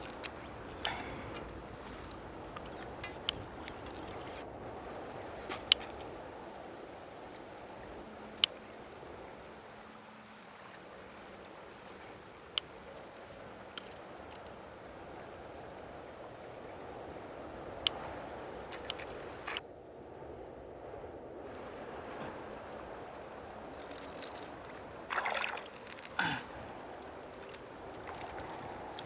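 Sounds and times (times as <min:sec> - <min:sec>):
insect chirping: 0:00.0 - 0:19.6, 0:21.5 - 0:29.0
low rushing background haze: 0:00.0 - 0:29.0.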